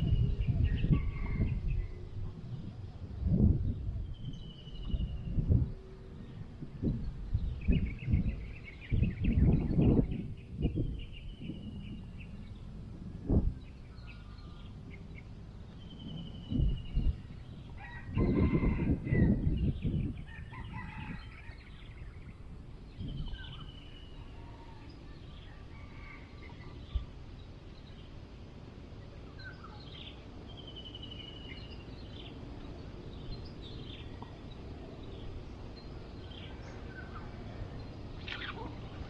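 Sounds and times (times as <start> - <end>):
birds chirping and trilling: 0.0 - 39.0.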